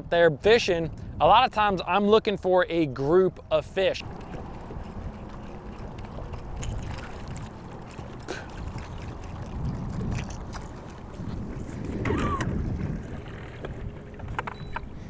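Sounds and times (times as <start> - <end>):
wind rumble on microphone: 0.0 - 3.4, 4.0 - 15.0
water lapping against hull: 2.9 - 15.0.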